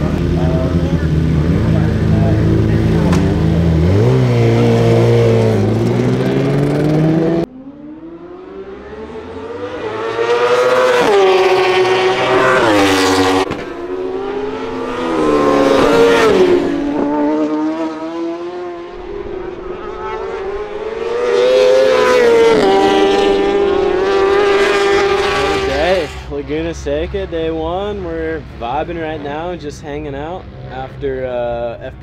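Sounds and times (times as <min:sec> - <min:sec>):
motorcycle engine accelerating: 0:00.0 - 0:28.4.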